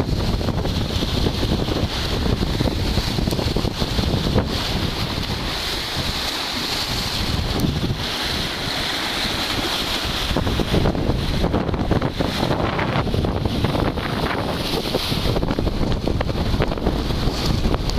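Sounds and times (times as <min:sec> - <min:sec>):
river water splashing on rocks: 0:00.0 - 0:17.9
wind buffeting microphone: 0:00.0 - 0:17.9.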